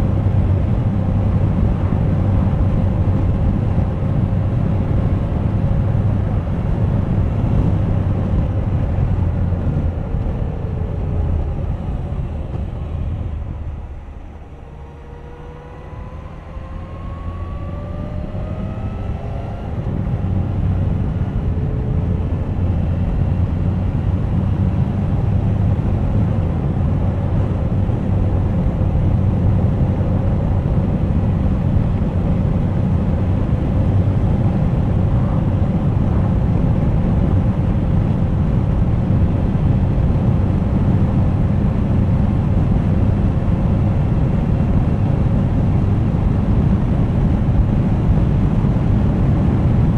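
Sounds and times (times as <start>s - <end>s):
motorcycle engine accelerating: 0.0s - 49.9s
wind rumble: 0.0s - 49.9s.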